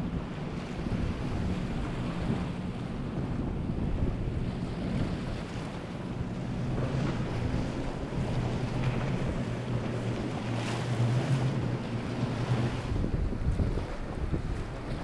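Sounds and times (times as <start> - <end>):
outboard engines droning: 0.0 - 15.0
wind on microphone: 0.0 - 15.0.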